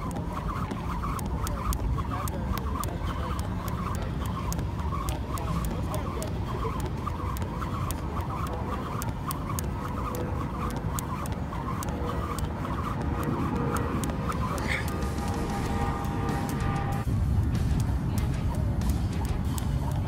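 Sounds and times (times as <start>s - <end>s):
jump rope slapping pavement: 0.0s - 20.0s
steady low rumble: 0.0s - 20.0s.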